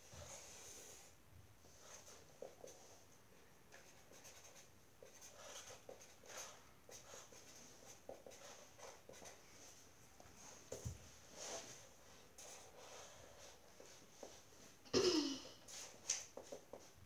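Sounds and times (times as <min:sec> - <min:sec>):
marker strokes on paper: 0:00.1 - 0:03.1, 0:03.7 - 0:09.8, 0:10.4 - 0:14.6, 0:15.6 - 0:17.0.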